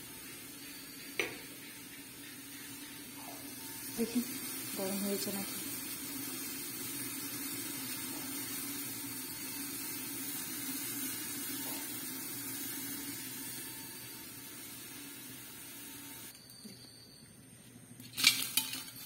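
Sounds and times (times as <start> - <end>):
gas stove burner hissing: 0.0 - 16.6.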